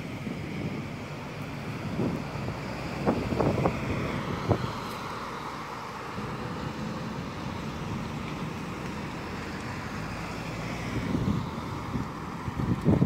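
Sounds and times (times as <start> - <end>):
bus engine and tyre noise: 0.0 - 13.0
car approaching: 0.0 - 13.0.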